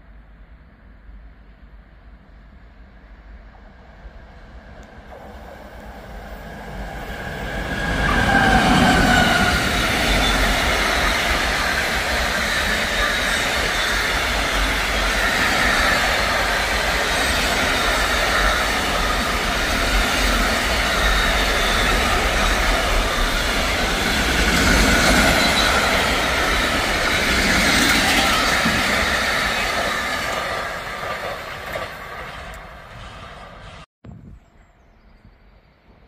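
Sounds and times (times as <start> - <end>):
freight train wheels on rails: 2.6 - 33.9.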